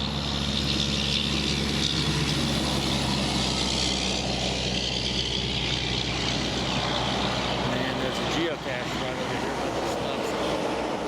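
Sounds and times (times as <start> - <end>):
highway traffic rushing: 0.0 - 11.0.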